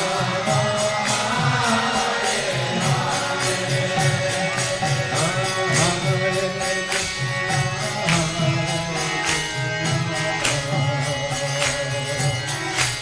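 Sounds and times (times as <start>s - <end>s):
steady percussion beat: 0.0s - 13.0s
voices singing a chant: 0.0s - 13.0s.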